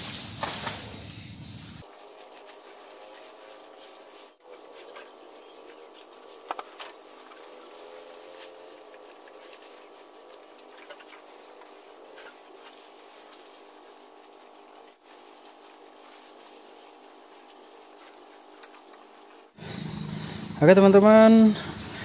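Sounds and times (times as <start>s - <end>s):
cattle chewing grass: 1.8s - 20.6s.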